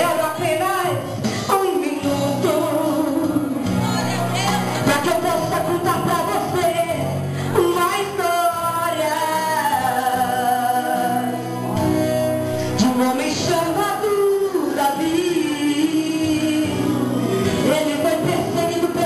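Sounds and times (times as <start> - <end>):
woman singing gospel song: 0.0 - 11.6, 12.5 - 19.0
instrumental backing: 0.0 - 19.0.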